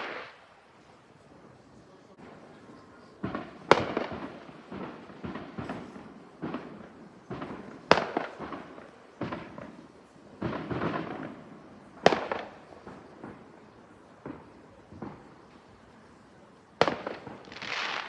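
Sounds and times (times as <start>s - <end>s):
fireworks exploding: 0.0s - 18.0s.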